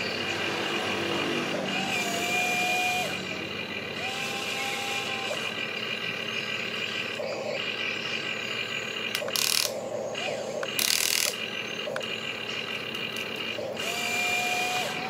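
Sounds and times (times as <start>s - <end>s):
toy excavator motors whining: 0.0s - 15.0s.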